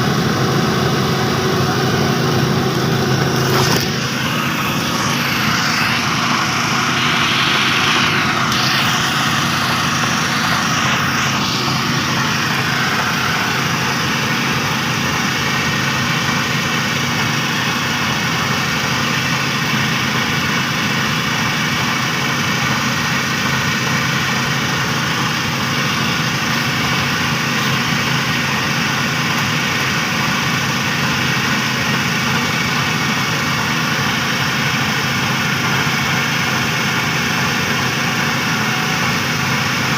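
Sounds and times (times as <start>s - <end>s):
threshing machine drone: 0.0s - 39.9s.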